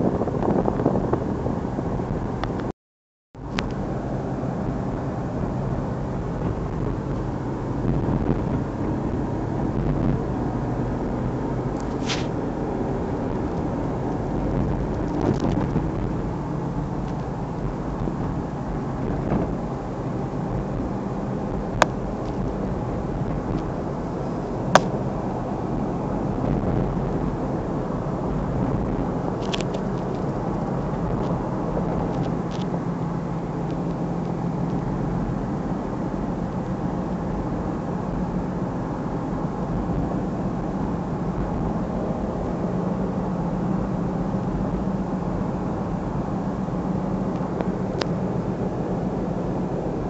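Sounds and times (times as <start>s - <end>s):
car cabin road noise: 0.0s - 2.7s, 3.4s - 50.0s.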